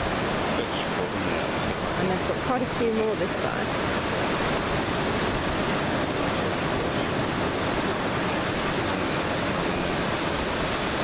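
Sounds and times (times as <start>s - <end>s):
surf washing onto sandy beach: 0.0s - 11.0s.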